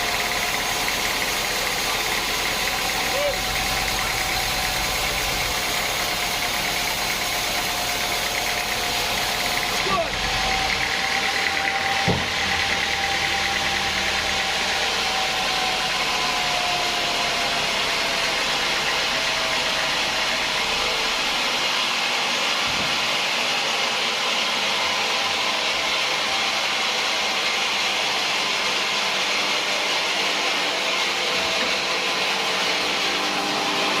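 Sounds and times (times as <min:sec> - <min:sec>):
sawmill machinery rushing: 0:00.0 - 0:34.0.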